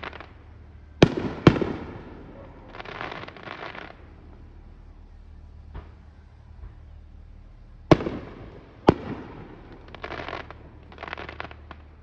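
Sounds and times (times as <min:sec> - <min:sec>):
firework crackling: 0:00.0 - 0:12.0
firework shells booming: 0:00.0 - 0:12.0.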